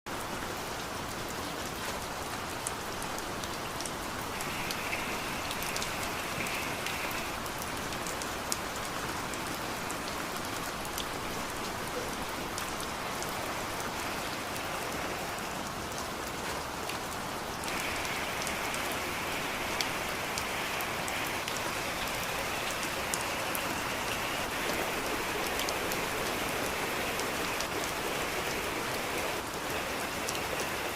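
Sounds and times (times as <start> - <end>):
heavy rain hissing: 1.7 - 30.9
rain drop ticks: 1.8 - 30.9.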